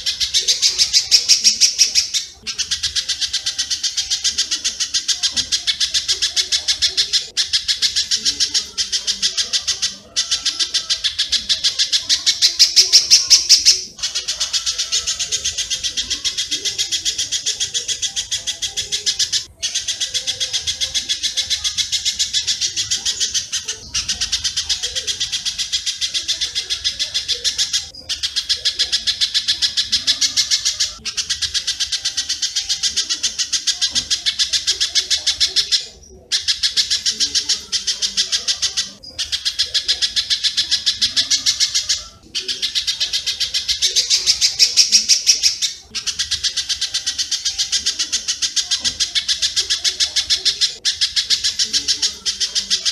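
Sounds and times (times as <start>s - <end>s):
sharp high bird chirps: 0.0s - 52.9s.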